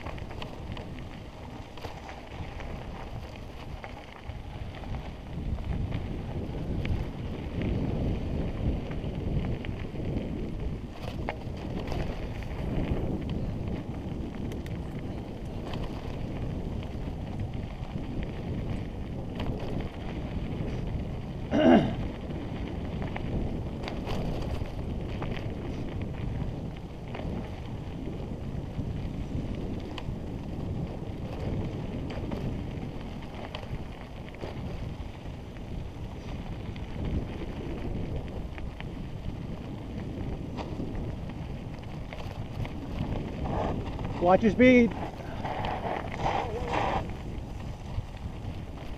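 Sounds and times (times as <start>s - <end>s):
bike clicks and rattles: 0.0s - 48.9s
tyres rumbling on dirt: 0.0s - 48.9s
wind rushing on microphone: 0.0s - 48.9s.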